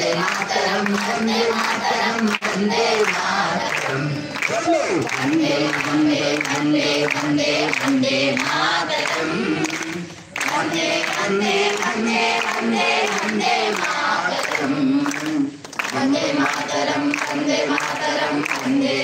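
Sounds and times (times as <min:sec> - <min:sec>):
voices singing together: 0:00.0 - 0:19.0.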